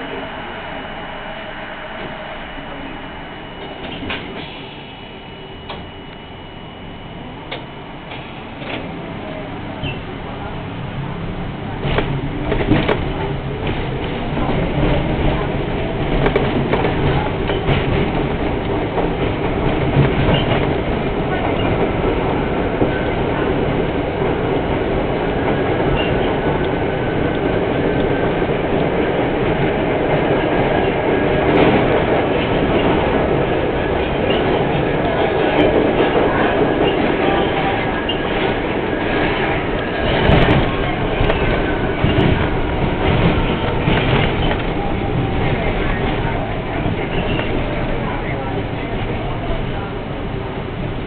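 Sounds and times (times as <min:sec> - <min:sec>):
train rumbling on track: 0:00.0 - 0:51.0.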